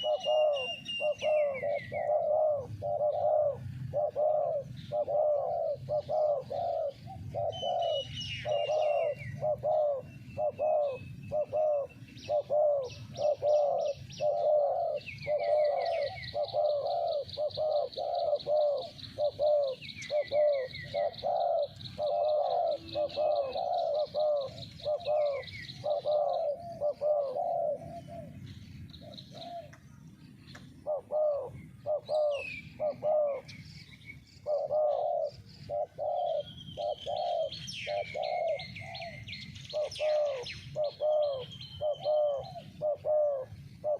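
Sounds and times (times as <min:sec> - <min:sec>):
doves cooing: 0:00.0 - 0:43.9
small birds chirping and trilling: 0:00.0 - 0:43.9.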